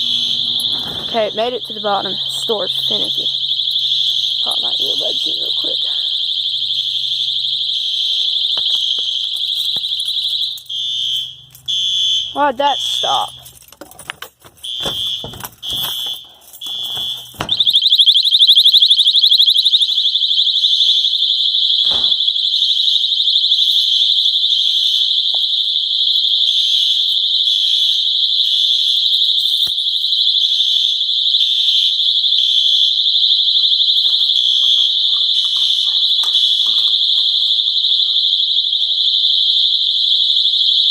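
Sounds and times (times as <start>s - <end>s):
continuous high-pitched alarm tone: 0.0s - 40.9s
fire alarm beeping: 0.0s - 40.9s.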